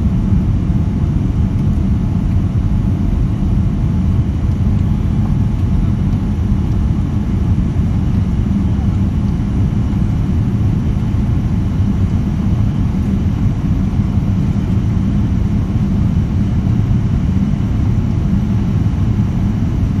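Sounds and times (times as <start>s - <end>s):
airliner engine rumble in cabin: 0.0s - 20.0s.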